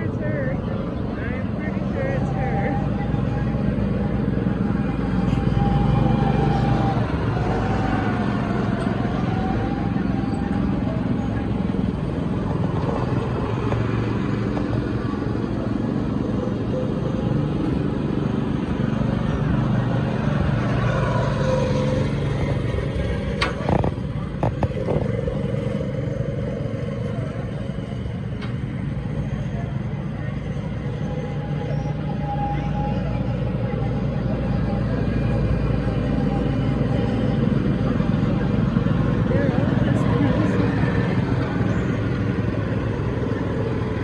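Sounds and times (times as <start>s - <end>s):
go-kart engines running: 0.0s - 44.0s.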